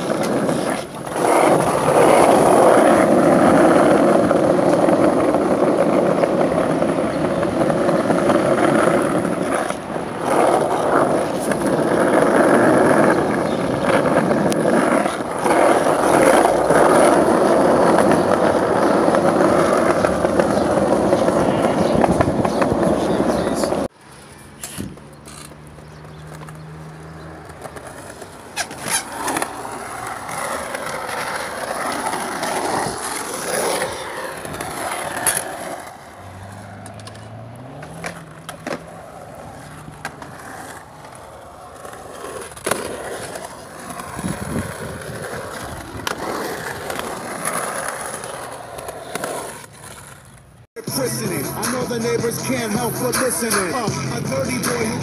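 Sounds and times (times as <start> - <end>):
skateboard clacking on concrete: 0.0 - 50.6
skateboard wheels rolling on concrete: 0.0 - 55.0.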